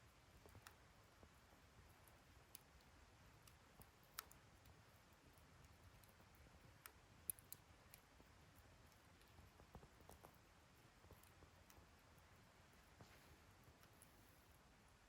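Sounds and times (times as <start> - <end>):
wood fire crackling and popping: 0.1 - 14.2.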